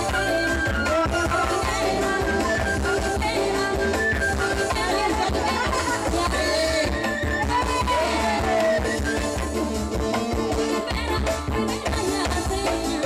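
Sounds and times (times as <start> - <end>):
band music with drums and bass: 0.0 - 13.0.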